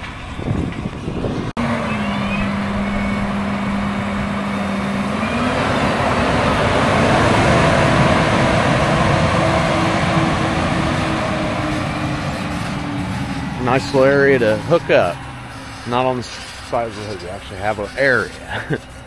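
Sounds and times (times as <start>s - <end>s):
tractor diesel engine driving past: 0.0s - 19.0s.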